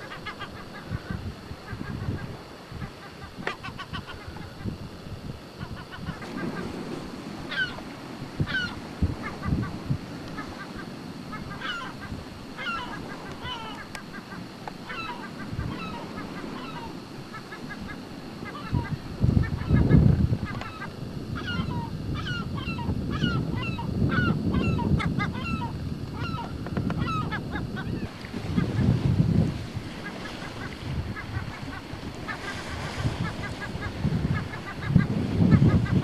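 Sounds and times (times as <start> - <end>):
flock of birds calling: 0.0 - 4.7, 7.5 - 7.8, 8.4 - 29.0, 30.0 - 36.0.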